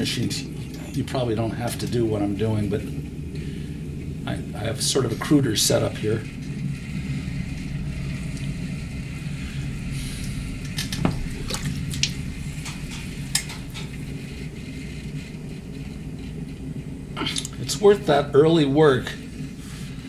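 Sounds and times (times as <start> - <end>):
potter's wheel humming: 0.0 - 20.0.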